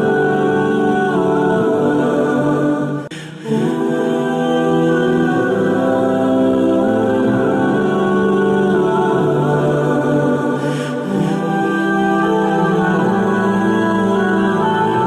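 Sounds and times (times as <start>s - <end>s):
choir-like vocal music: 0.0s - 15.0s.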